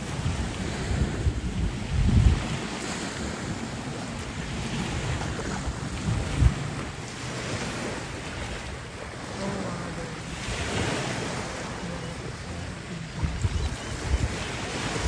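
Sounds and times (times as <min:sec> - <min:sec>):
sea waves lapping: 0:00.0 - 0:15.0
wind buffeting microphone: 0:00.0 - 0:15.0.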